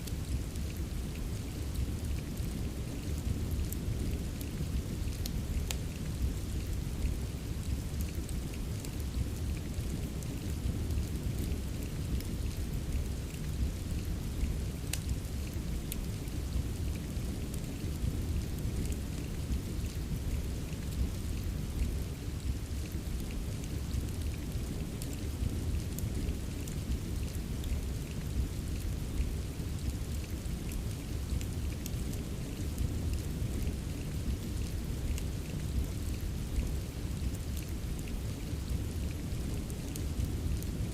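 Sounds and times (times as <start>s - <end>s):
crackling fireplace: 0.0s - 40.9s
steady rain: 0.0s - 40.9s.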